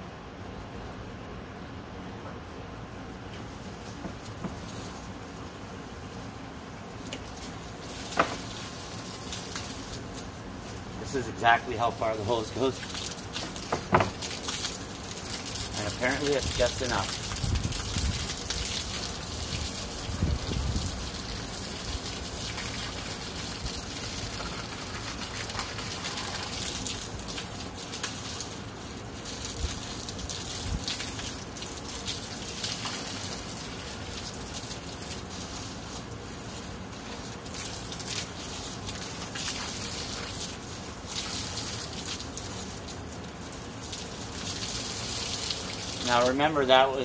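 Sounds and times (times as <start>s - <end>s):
garden hose spraying water: 2.9s - 47.0s.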